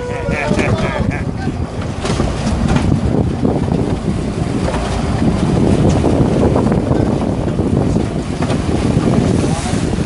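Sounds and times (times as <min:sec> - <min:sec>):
boat engines: 0:00.0 - 0:10.0
water churning: 0:00.0 - 0:10.0
wind buffeting microphone: 0:00.0 - 0:10.0.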